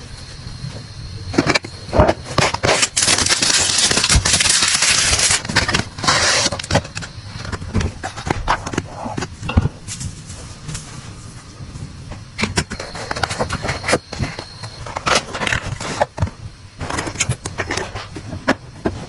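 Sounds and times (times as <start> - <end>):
crackly rustle: 0.1 - 19.0.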